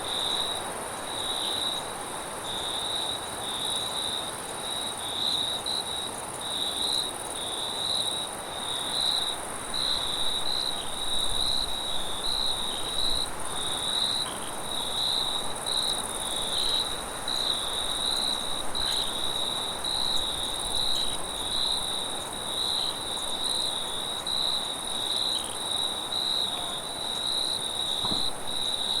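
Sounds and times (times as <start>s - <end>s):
crickets chirping: 0.0s - 29.0s
high insect drone: 0.1s - 29.0s.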